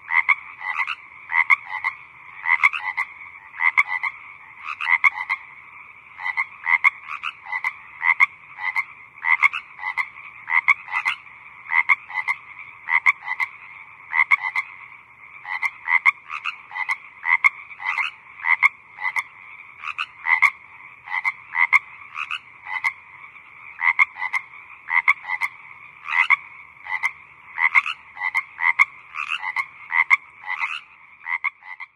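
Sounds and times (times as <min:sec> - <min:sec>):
background frog chorus: 0:00.0 - 0:31.9
frogs croaking: 0:00.0 - 0:31.9.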